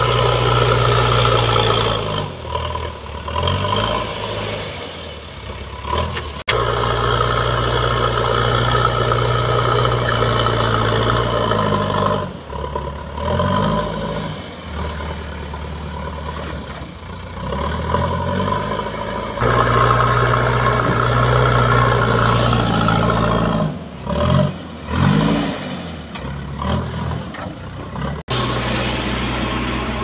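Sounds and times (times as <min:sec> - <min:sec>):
diesel loader engine revving: 0:00.0 - 0:30.0.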